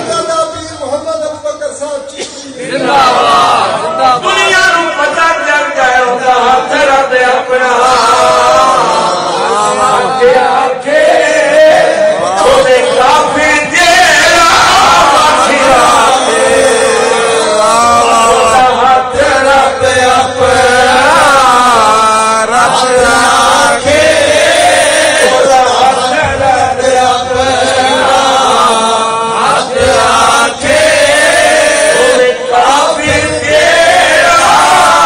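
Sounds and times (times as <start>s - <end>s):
man chanting into microphones: 3.1s - 35.0s.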